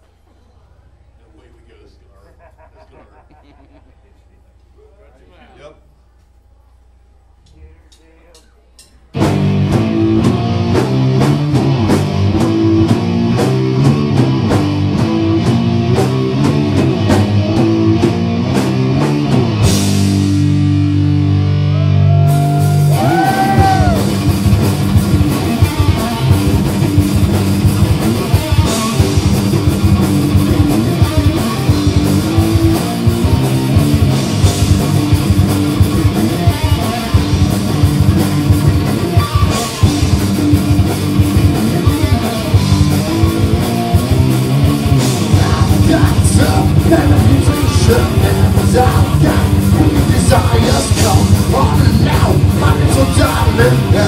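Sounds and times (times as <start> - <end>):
drum kit: 7.9 - 54.0
bass guitar: 9.0 - 54.0
distorted electric guitar: 9.2 - 54.0.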